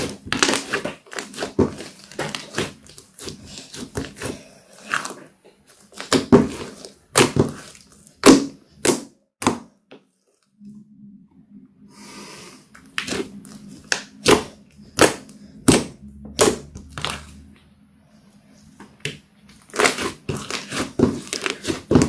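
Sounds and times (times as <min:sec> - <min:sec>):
slime squishing by hand: 0:00.0 - 0:10.6, 0:12.7 - 0:17.9, 0:18.5 - 0:22.0.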